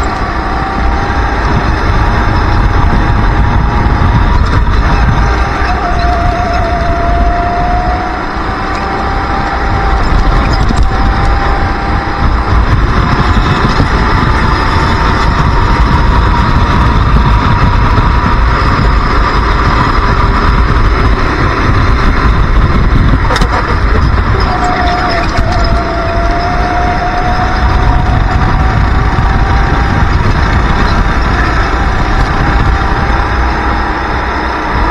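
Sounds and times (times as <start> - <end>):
kart engine revving: 0.0 - 34.9
wind rumble on microphone: 0.0 - 34.9.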